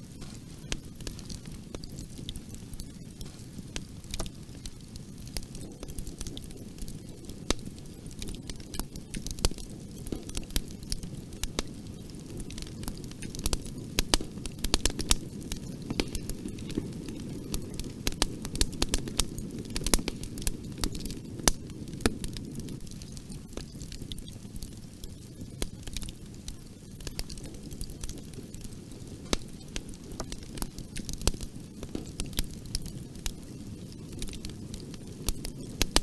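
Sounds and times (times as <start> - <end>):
fire crackling and popping: 0.0 - 36.0
fire flames rumbling: 0.0 - 36.0.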